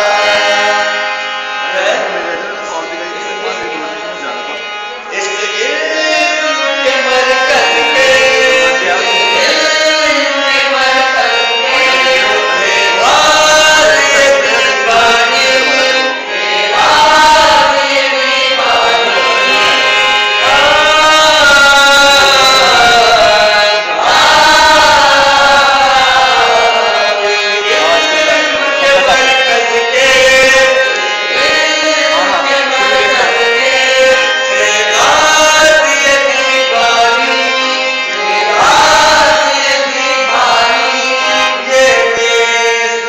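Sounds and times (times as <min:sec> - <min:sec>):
instrumental accompaniment: 0:00.0 - 0:43.0
person singing: 0:00.0 - 0:43.0.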